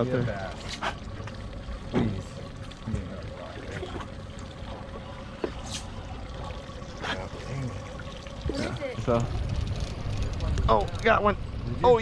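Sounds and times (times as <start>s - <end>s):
water lapping against boat hull: 0.0s - 11.2s
steady hum: 0.0s - 12.0s.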